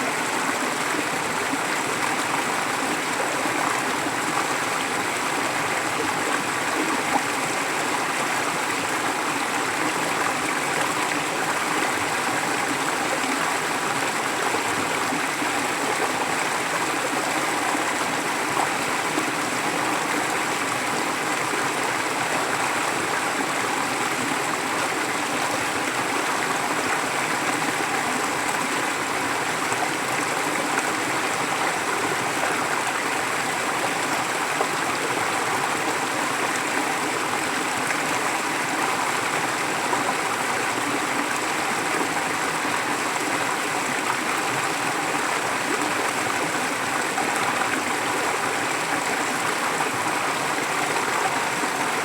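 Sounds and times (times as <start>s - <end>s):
stream flowing: 0.0s - 52.0s.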